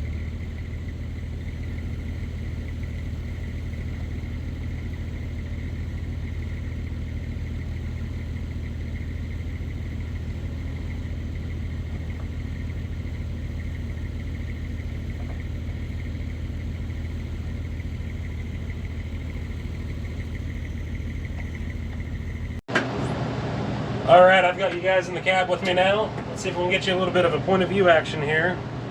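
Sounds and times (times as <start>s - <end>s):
heavy diesel engine running: 0.0s - 28.9s
high whine: 0.0s - 28.9s.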